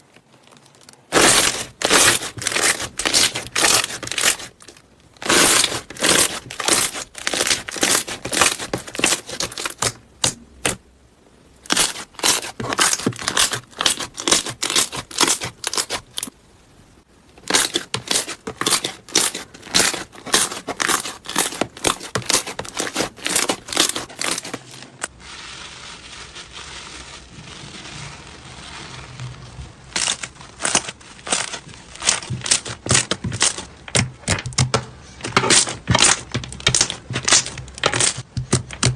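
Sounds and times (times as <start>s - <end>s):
soft steady rustling: 0.0s - 10.2s, 11.0s - 38.9s.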